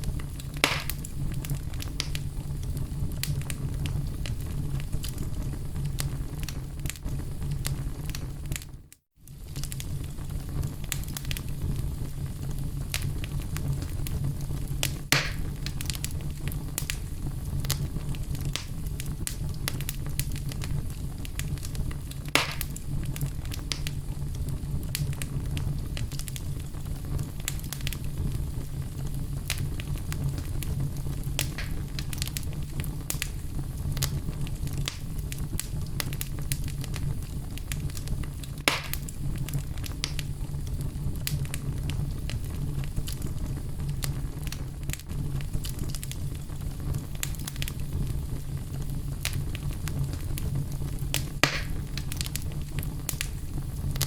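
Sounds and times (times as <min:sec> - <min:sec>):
loud fire pops: 0:00.0 - 0:54.0
wood fire crackling: 0:00.0 - 0:54.0.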